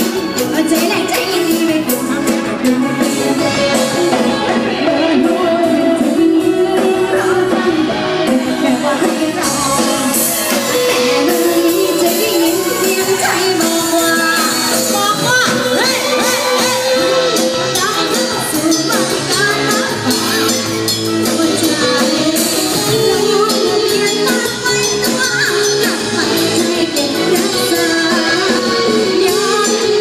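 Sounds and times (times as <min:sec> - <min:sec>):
drum kit: 0:00.0 - 0:30.0
electric guitars: 0:00.0 - 0:30.0
woman singing: 0:00.0 - 0:30.0.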